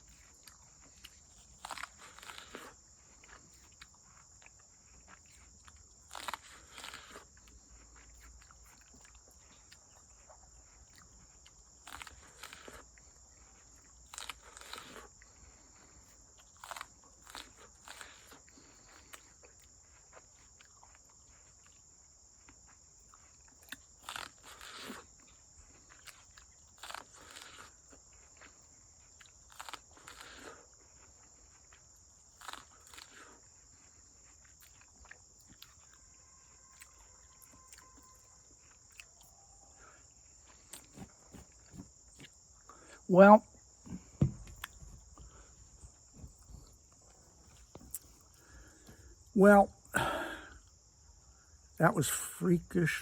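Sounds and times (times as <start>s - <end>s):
person chewing corn on the cob: 0.0s - 49.4s
high insect chorus: 0.0s - 53.0s.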